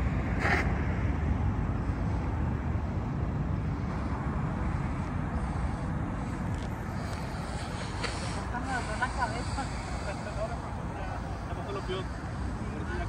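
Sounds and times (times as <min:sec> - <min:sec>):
road traffic rumble and hiss: 0:00.0 - 0:13.0.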